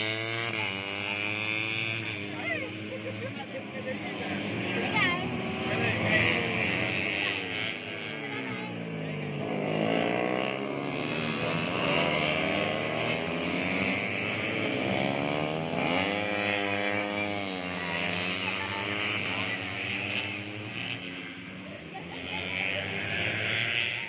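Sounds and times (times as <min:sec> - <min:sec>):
motorcycles revving past: 0:00.0 - 0:24.0.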